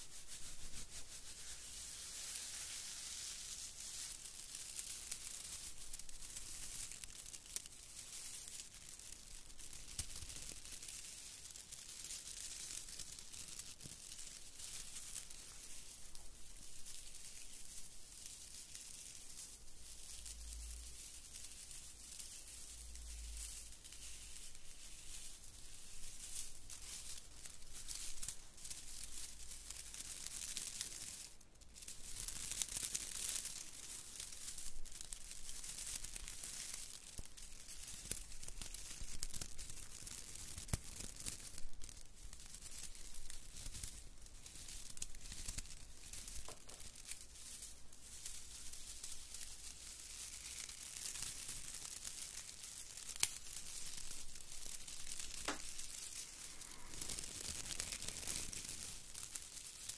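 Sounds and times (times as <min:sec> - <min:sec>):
pine needles rustling: 0:00.0 - 0:59.9.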